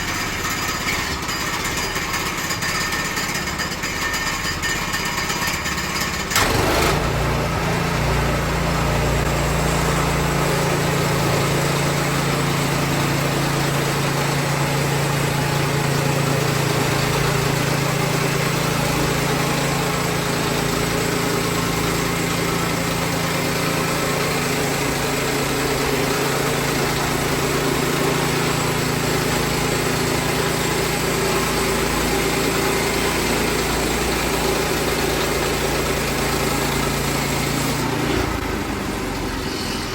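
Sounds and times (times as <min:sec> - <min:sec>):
sawmill gas engine running: 0:00.0 - 0:39.9.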